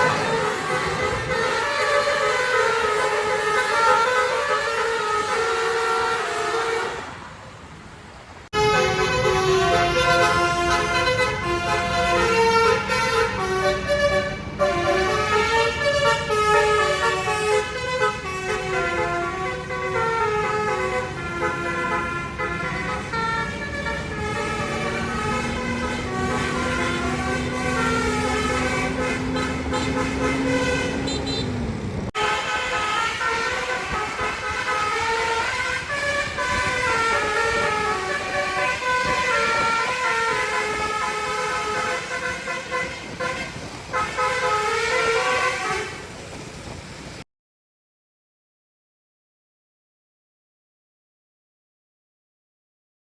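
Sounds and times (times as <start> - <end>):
multi-tone air horns playing tunes: 0.0 - 7.1, 8.6 - 31.6, 32.2 - 46.1
bus engine rumble: 0.0 - 47.2.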